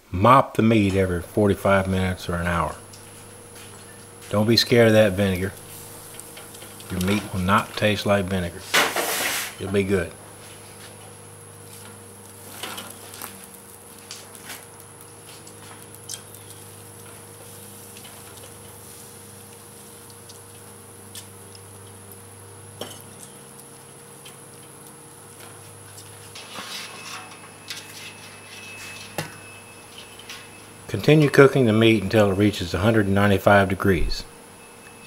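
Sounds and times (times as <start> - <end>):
steady low hum: 0.0 - 35.0
meat turned on metal grill grate: 0.8 - 34.1.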